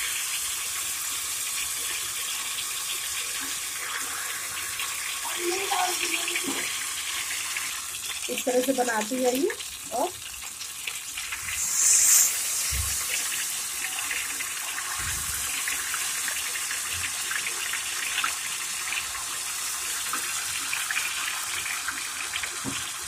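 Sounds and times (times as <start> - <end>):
batter sizzling in hot fat: 0.0 - 23.0.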